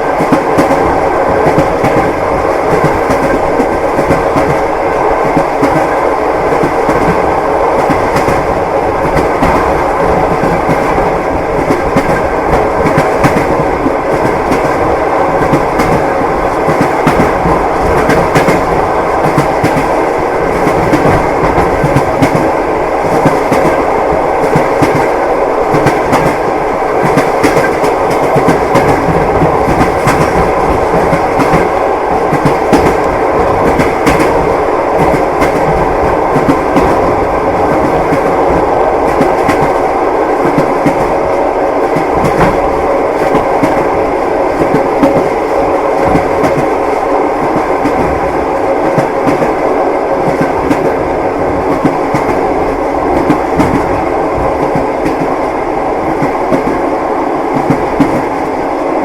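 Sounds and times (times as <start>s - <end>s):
train wheels clickety-clack: 0.0s - 58.8s
train rumble: 0.0s - 59.0s.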